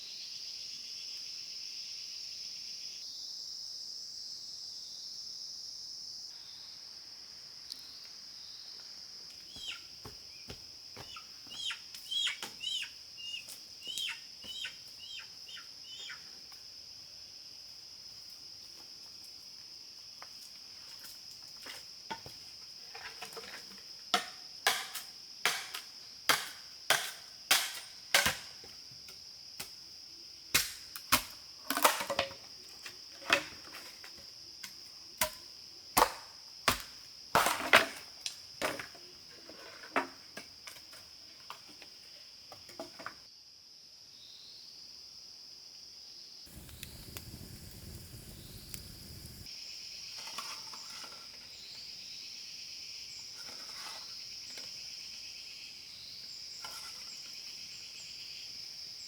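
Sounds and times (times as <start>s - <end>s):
insect chirps: 0.0s - 59.0s
insects droning: 0.0s - 59.0s.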